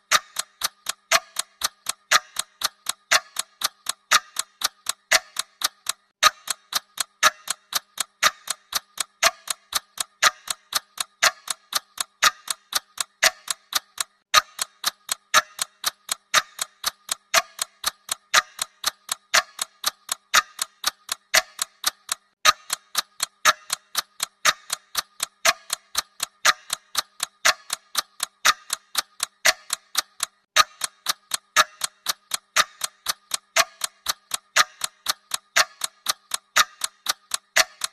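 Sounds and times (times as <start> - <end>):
clock ticking: 0.0 - 37.9.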